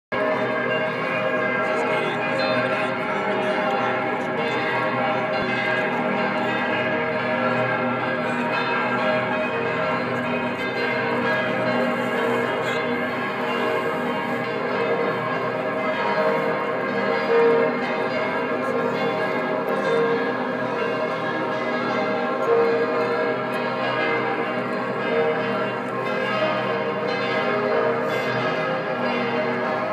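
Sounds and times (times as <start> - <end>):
church bells ringing: 0.1 - 29.9.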